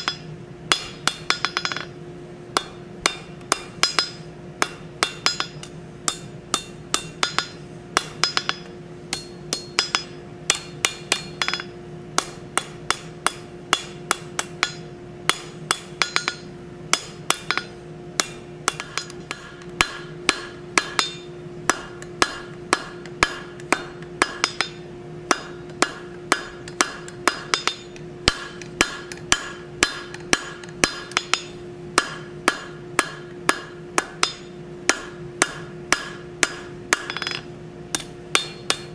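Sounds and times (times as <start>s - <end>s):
hammer striking steel on anvil: 0.0s - 38.9s
steady hum: 0.0s - 38.9s.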